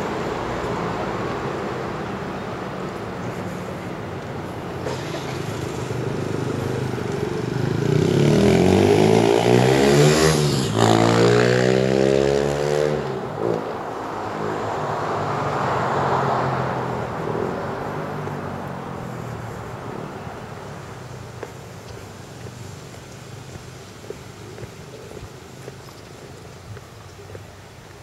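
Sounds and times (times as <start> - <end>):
street noise: 0.0 - 28.0
vehicle engine passing by: 3.1 - 26.4.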